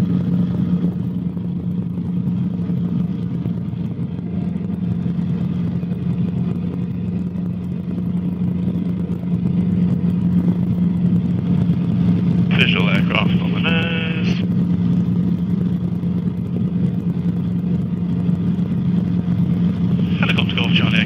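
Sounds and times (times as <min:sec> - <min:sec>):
helicopter drone from inside cabin: 0:00.0 - 0:21.0.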